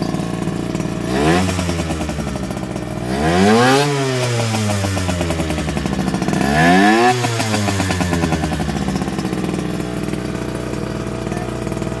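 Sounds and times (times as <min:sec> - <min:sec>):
two-stroke engine idling and revving: 0:00.0 - 0:12.0.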